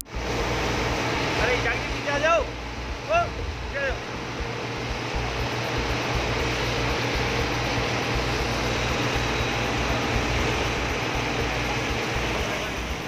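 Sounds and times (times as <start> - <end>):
engine and water pump running: 0.0 - 13.0.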